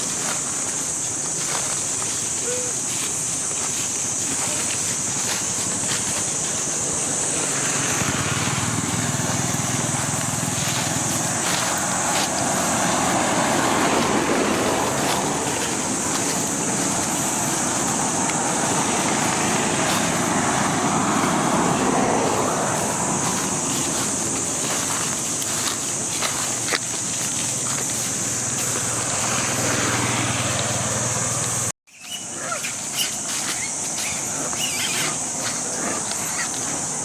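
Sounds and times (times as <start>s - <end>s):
constant high hiss: 0.0s - 37.0s
road traffic passing: 0.0s - 37.0s.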